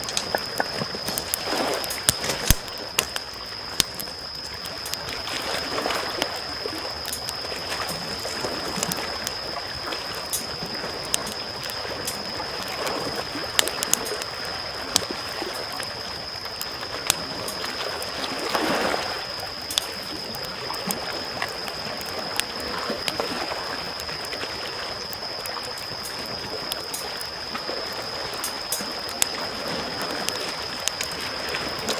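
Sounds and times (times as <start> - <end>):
small waves lapping: 0.0 - 4.1, 4.7 - 31.9
campfire crackling and popping: 0.0 - 31.9.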